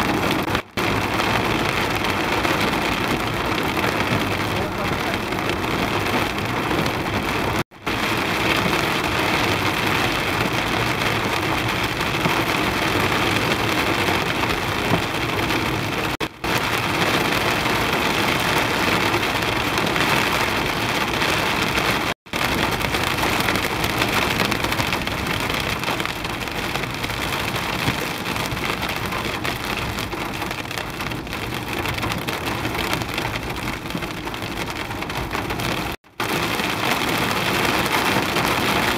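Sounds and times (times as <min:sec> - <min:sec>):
rain and hail on car roof: 0:00.0 - 0:38.9.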